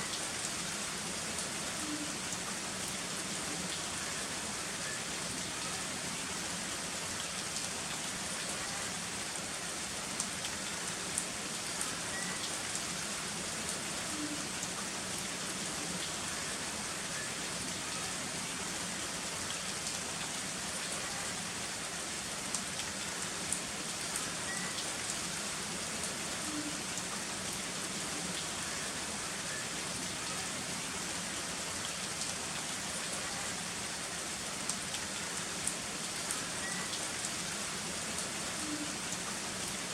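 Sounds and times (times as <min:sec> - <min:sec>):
heavy rain falling: 0:00.0 - 0:39.9
rain drops ticking: 0:00.0 - 0:39.9.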